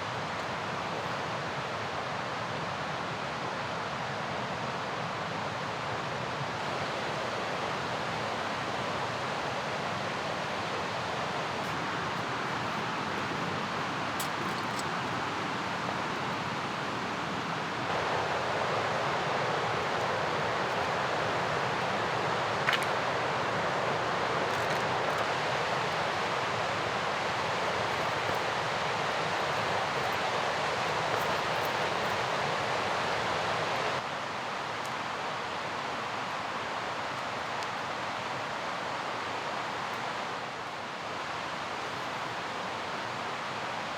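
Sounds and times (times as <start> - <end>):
mountain river rushing: 0.0 - 43.9.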